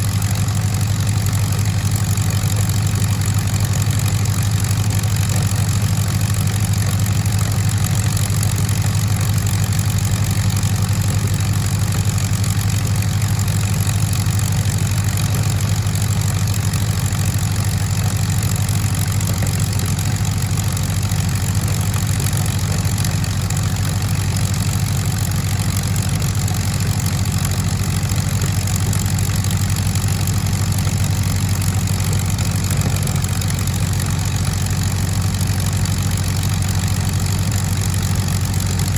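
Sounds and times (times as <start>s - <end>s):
piston engines idling: 0.0s - 38.9s.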